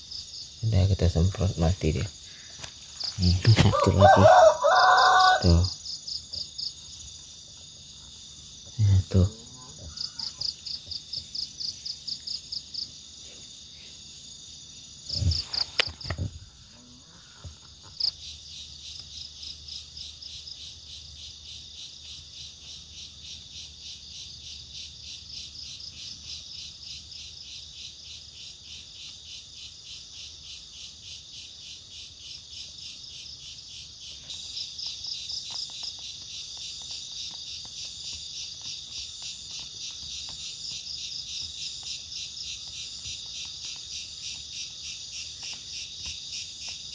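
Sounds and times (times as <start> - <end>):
insects chirping rhythmically: 0.0 - 46.9.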